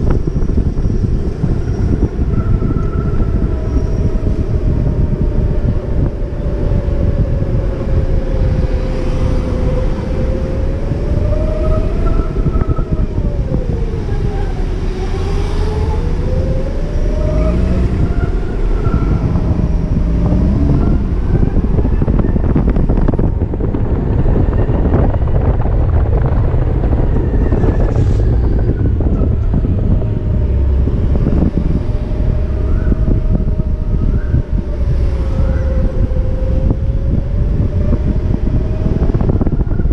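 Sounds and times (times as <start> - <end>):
low rumbling road noise: 0.0 - 39.9
wind buffeting microphone: 0.0 - 39.9.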